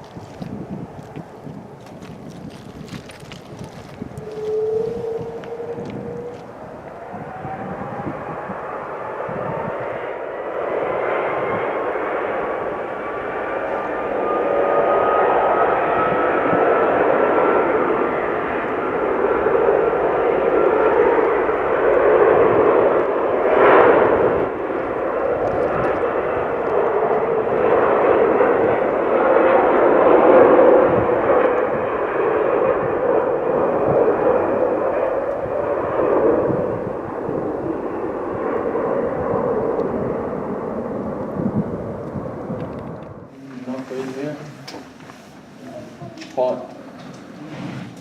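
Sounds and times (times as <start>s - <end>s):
airliner engines running: 0.0s - 48.0s.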